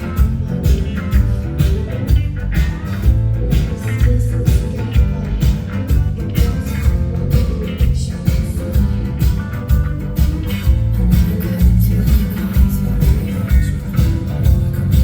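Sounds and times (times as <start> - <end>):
bass guitar: 0.0 - 15.0
electric guitars: 0.0 - 15.0
steady drum beat: 0.0 - 15.0.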